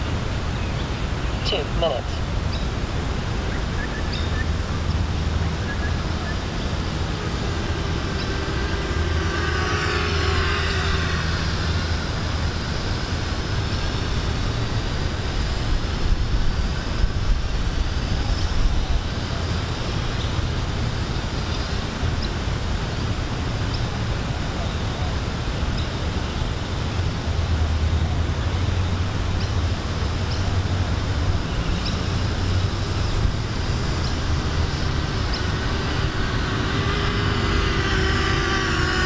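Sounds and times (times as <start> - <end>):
drone propellers whining: 0.0 - 39.0
steady low rumble: 0.0 - 39.0.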